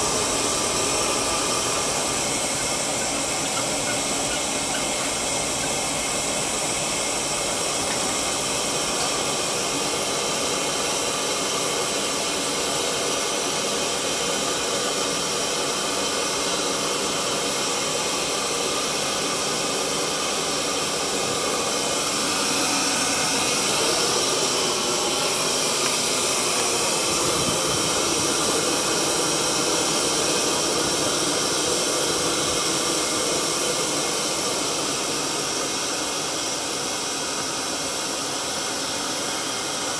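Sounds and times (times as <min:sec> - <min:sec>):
hiss: 0:00.0 - 0:39.9
kiln burners roaring: 0:00.0 - 0:39.9.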